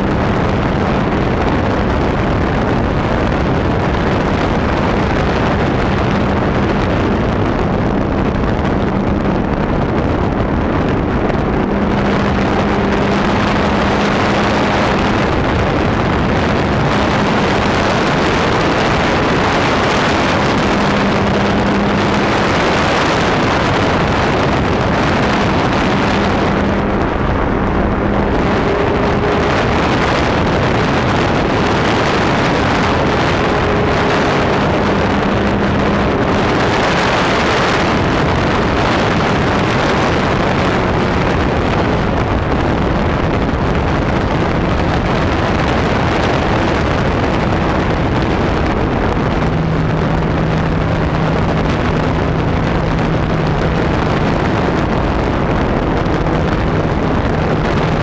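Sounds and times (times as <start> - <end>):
wind rush over camera: 0.0 - 58.0.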